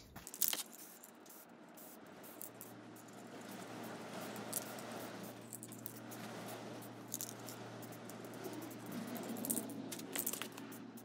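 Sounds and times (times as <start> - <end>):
spray paint can hissing: 0.2 - 11.0.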